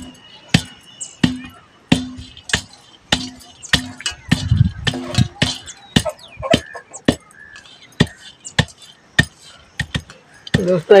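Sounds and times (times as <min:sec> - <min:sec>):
wooden pestle knocking iron bowl: 0:00.0 - 0:07.4, 0:08.0 - 0:11.0.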